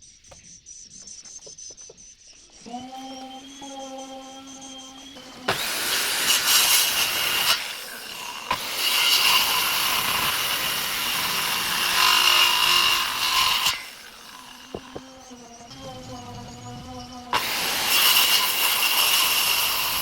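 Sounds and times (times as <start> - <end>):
power saw cutting wood: 2.5 - 20.0.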